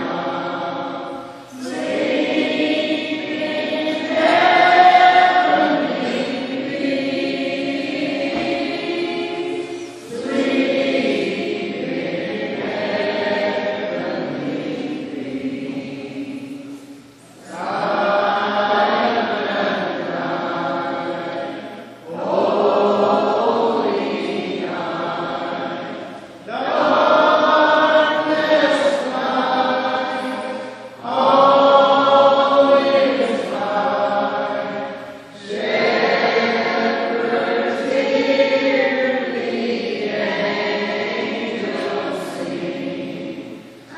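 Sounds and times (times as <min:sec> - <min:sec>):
mixed choir singing: 0:00.0 - 0:43.9.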